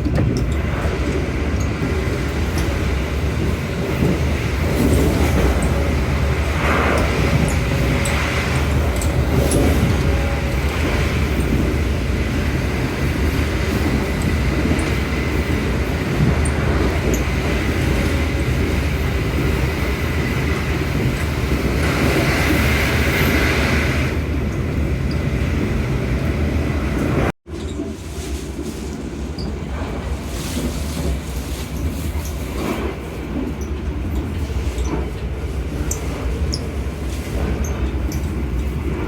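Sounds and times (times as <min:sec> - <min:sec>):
train rumbling on rails: 0:00.0 - 0:39.0.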